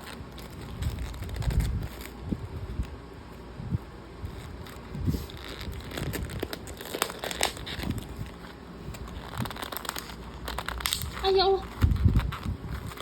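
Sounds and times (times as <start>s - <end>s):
food packaging crinkling: 0.0s - 3.0s, 4.2s - 13.0s.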